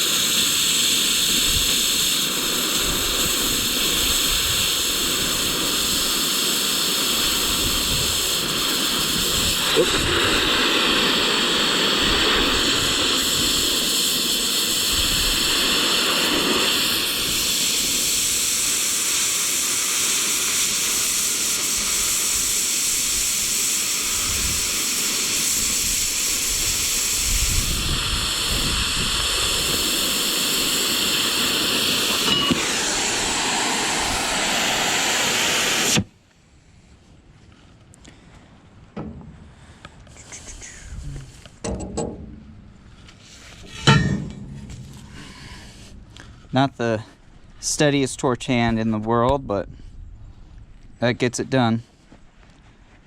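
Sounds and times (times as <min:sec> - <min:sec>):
cutting torch hissing: 0:00.0 - 0:36.2, 0:40.1 - 0:41.8, 0:42.4 - 0:48.3.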